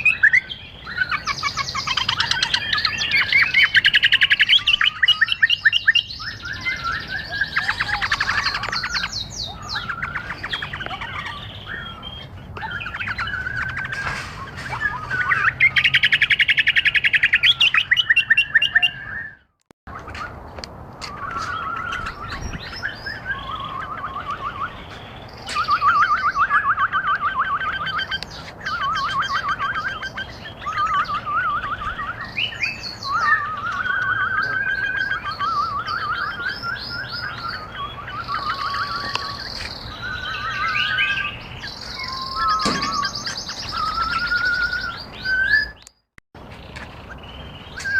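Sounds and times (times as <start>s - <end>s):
birds chirping and singing: 0.0s - 47.9s.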